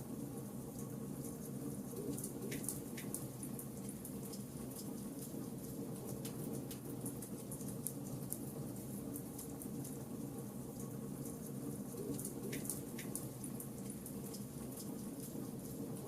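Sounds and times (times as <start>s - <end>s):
burning charcoal crackling: 1.4s - 16.0s.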